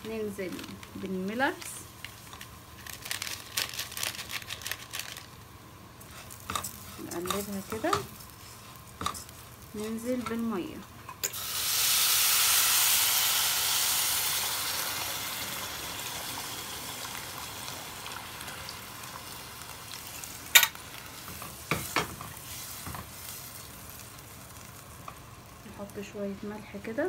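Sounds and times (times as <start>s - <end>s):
water sizzling in hot oil: 4.8s - 27.0s.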